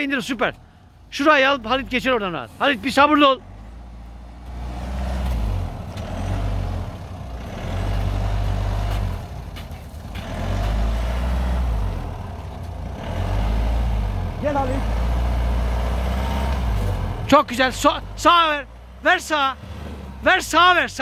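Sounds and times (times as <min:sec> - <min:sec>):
vehicle engine revving: 0:01.5 - 0:21.0.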